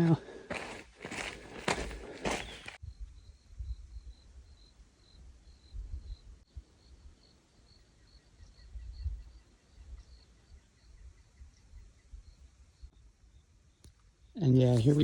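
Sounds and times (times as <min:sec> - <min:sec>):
cricket chirping: 0:01.1 - 0:14.3.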